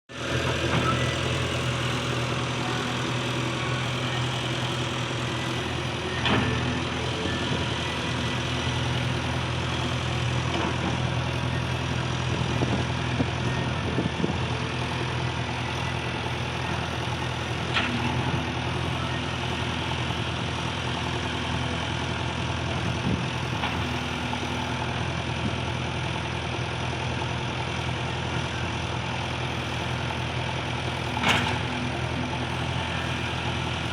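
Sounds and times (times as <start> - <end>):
diesel engine running steadily: 0.1 - 33.9.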